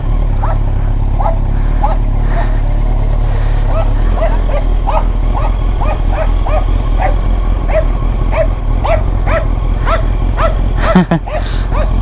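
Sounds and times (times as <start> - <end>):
low rumble: 0.0 - 12.0
dog barking: 0.4 - 2.1, 3.6 - 12.0.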